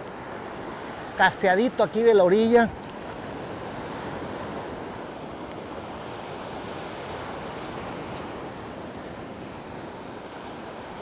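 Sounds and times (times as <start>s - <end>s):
surf washing onto beach: 0.0s - 11.0s
wind: 0.0s - 11.0s.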